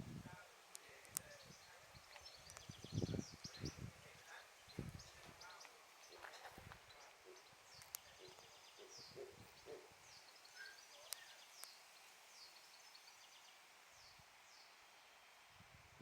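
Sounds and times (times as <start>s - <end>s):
small birds chirping: 0.3s - 15.2s.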